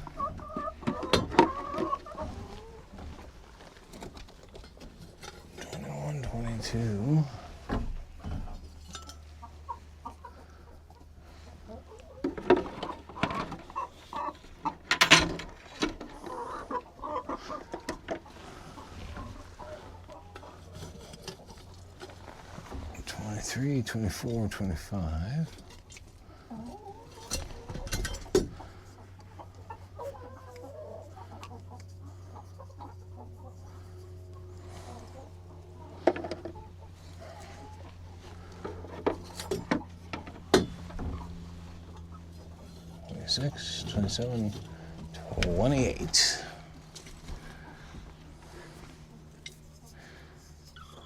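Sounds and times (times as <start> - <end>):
hens clucking: 0.0 - 51.0
steady low hum: 0.0 - 51.0.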